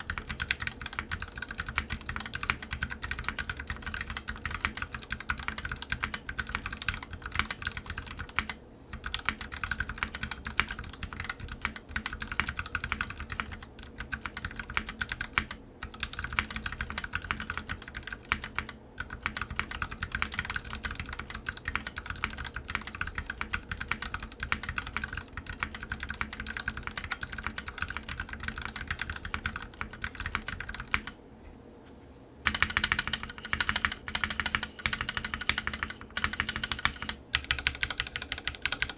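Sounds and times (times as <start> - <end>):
mechanical keyboard typing: 0.0 - 31.2, 32.4 - 38.9.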